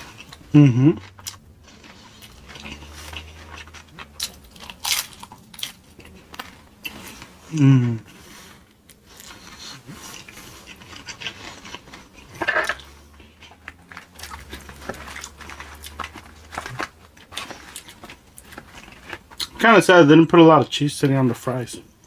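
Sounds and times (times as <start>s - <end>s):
chewing: 0.0s - 19.6s.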